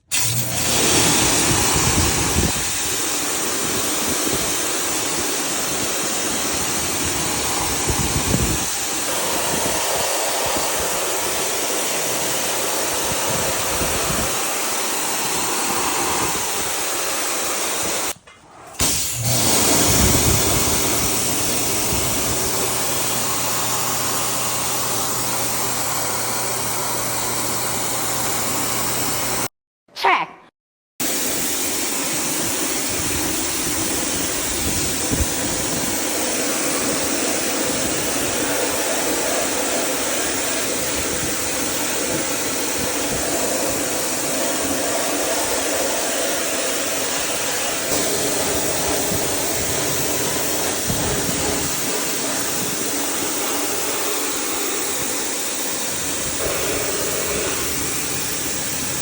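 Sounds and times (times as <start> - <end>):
high-pressure water spray hissing: 0.0 - 18.2, 18.8 - 29.5, 31.0 - 59.0.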